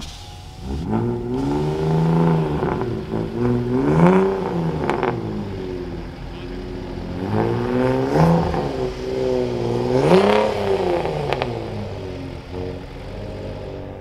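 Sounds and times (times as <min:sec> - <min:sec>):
car engine revving and idling: 0:00.0 - 0:14.0
engine sharp cracks: 0:00.0 - 0:14.0.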